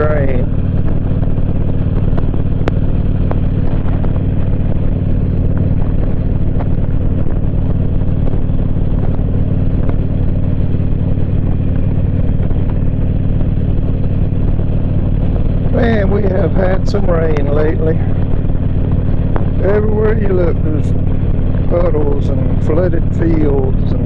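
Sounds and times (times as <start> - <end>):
motorcycle engine cruising: 0.0 - 24.0
road noise: 0.0 - 24.0.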